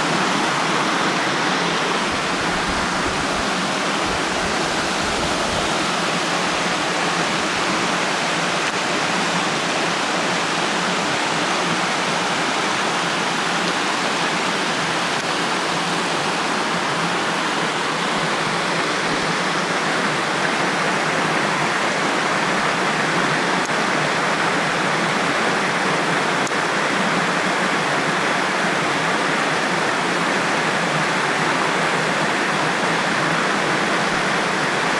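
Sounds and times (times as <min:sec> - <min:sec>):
rushing stream and waterfall: 0:00.0 - 0:34.9.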